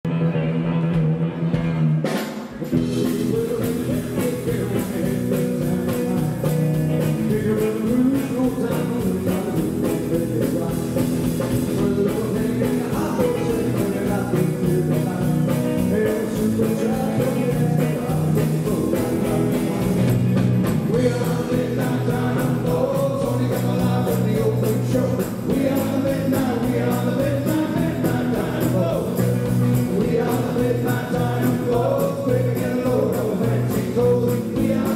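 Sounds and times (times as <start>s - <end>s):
electric guitars: 0.1s - 34.9s
drum kit beat: 1.6s - 34.9s
men singing: 2.8s - 34.9s.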